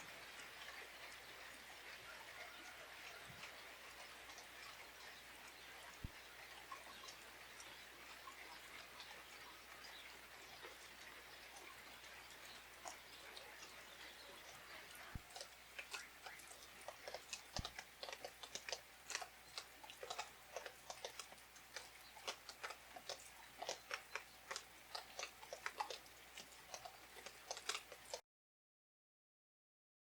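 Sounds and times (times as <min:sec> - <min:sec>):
small crackles and clicks: 0:02.6 - 0:28.2.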